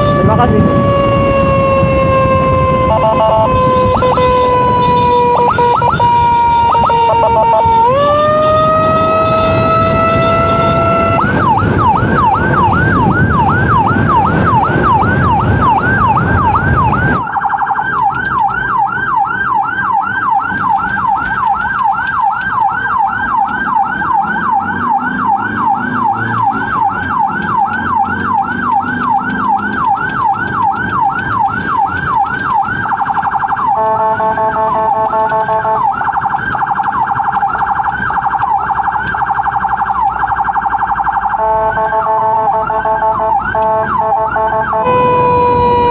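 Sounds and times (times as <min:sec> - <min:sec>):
emergency siren sweeping: 0:00.0 - 0:45.9
engine rumble: 0:00.0 - 0:45.9
wind: 0:00.0 - 0:45.9.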